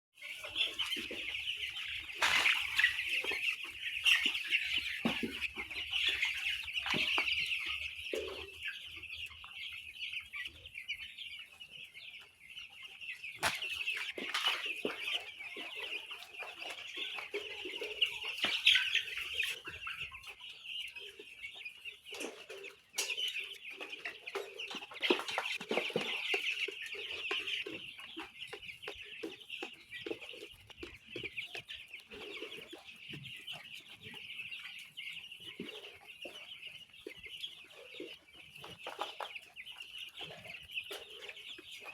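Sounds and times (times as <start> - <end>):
chicks peeping: 0.2 - 41.9.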